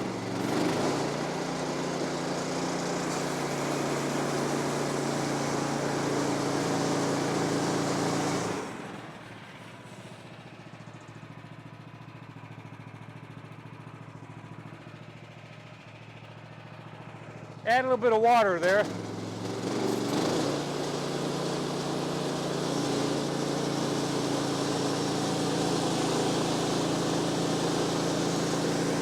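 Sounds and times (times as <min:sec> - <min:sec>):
gas engine running: 0:00.0 - 0:10.5, 0:13.8 - 0:29.0.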